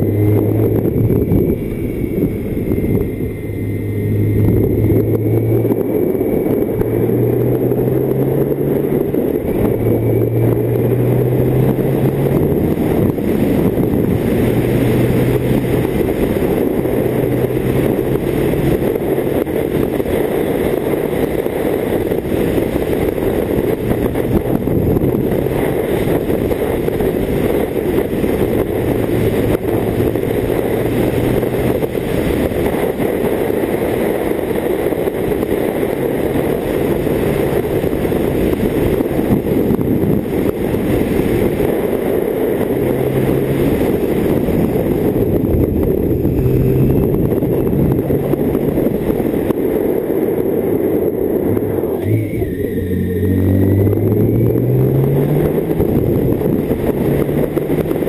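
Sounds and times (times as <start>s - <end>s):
heavy wind rush: 0.0s - 58.0s
motorcycle engine running: 0.0s - 58.0s.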